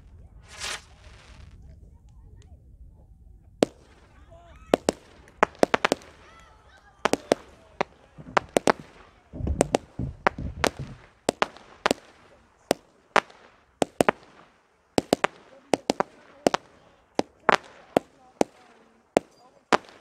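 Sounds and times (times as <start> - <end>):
fireworks bangs and cracks: 0.0 - 1.7, 3.6 - 20.0
low rumbling fireworks volley: 0.0 - 20.0.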